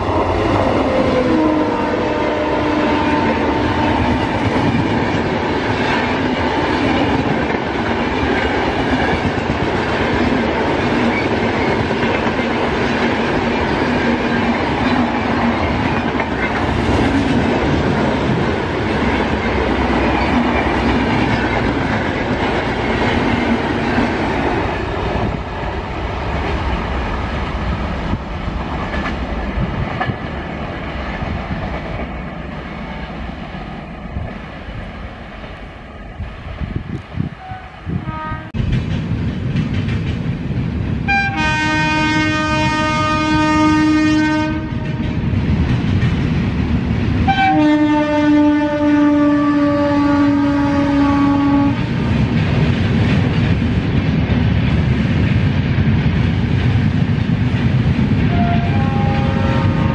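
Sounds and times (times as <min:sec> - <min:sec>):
train rushing past: 0:00.0 - 0:59.9.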